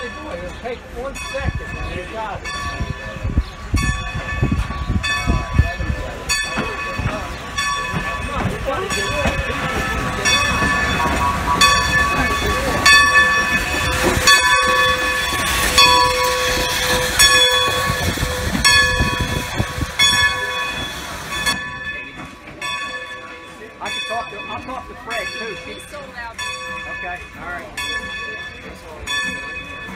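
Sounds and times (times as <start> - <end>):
locomotive bell ringing: 0.0 - 29.9.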